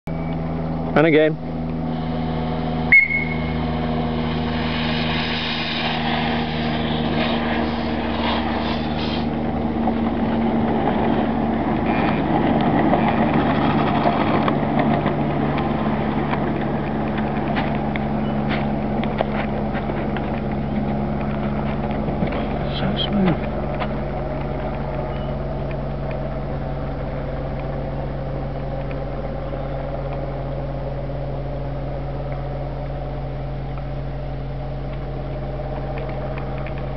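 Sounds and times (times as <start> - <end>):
low steady hum: 0.1 - 36.9
steam locomotive running: 0.4 - 36.9.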